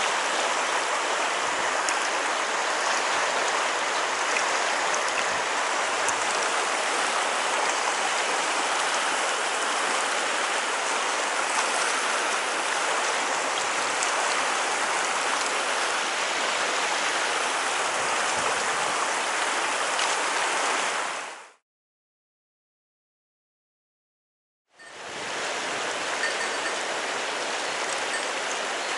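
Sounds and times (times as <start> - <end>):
stream water rushing: 0.0 - 21.6, 24.8 - 28.9.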